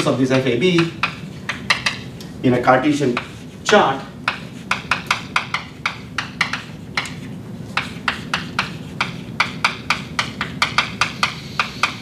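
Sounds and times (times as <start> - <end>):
chalk tapping on blackboard: 0.0 - 2.1, 2.7 - 12.0.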